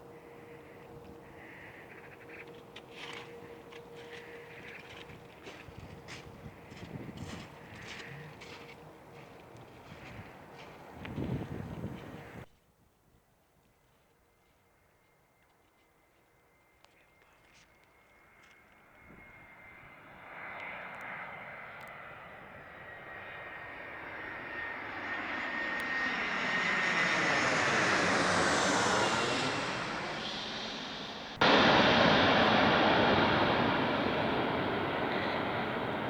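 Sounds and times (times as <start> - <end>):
jet airliner flying past: 0.0 - 12.5, 16.6 - 36.0.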